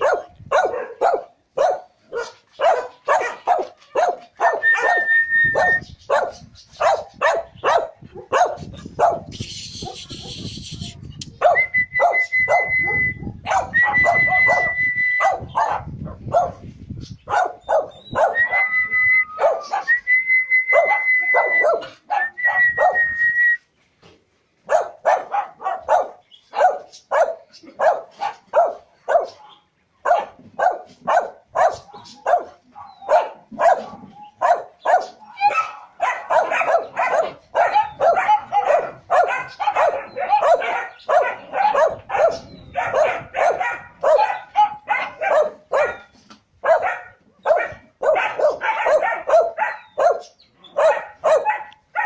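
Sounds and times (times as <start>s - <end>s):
dog barking: 0.0s - 10.0s, 11.4s - 18.6s, 19.4s - 19.9s, 20.7s - 23.0s, 24.6s - 52.0s.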